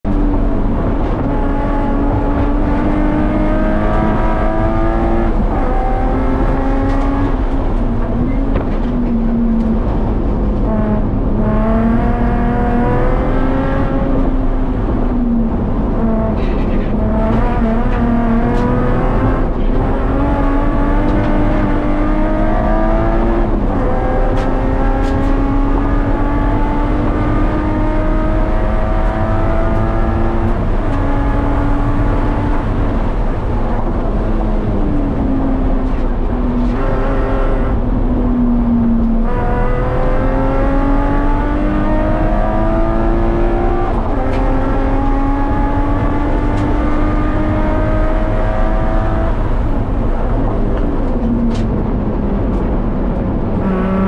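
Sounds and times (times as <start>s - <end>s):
car engine revving through gears: 0.0s - 54.0s.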